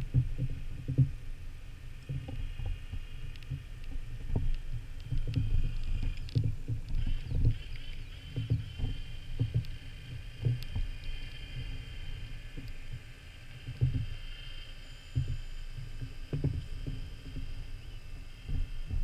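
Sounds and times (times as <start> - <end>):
faint steady high whine: 0.0 - 19.0
rumbling of moving water: 0.0 - 19.0.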